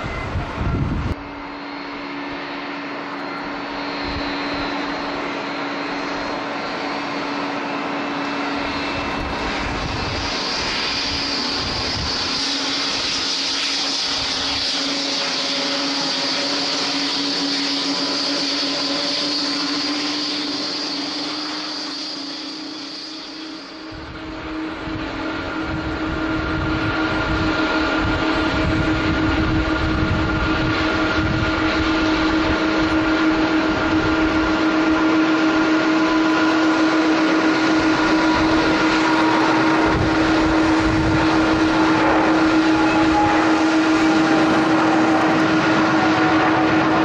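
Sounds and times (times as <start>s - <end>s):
jet engines roaring: 0.0s - 47.0s
high jet hiss: 1.4s - 26.0s, 26.7s - 47.0s.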